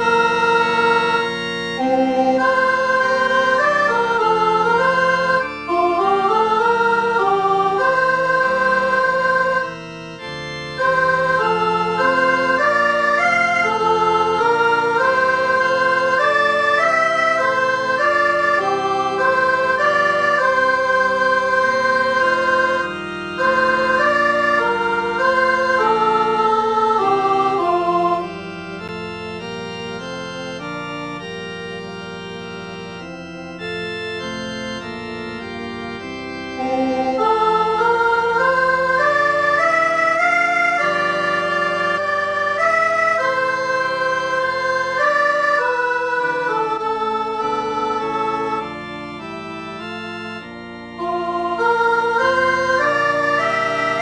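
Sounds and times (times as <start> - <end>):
synthetic organ-like choral playback: 0.0 - 54.0.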